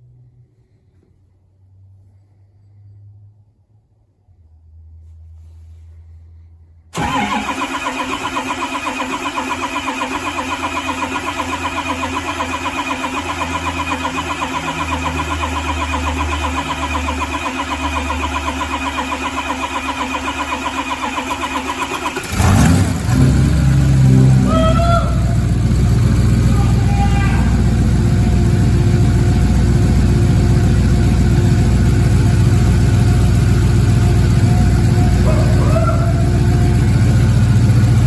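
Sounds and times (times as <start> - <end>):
diesel engine idling: 6.9 - 38.0.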